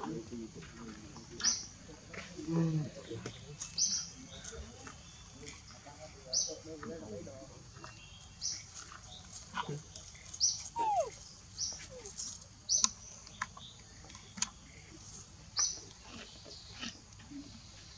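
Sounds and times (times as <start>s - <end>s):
bird chirping: 0.8s - 2.2s, 2.8s - 6.8s, 7.7s - 17.0s.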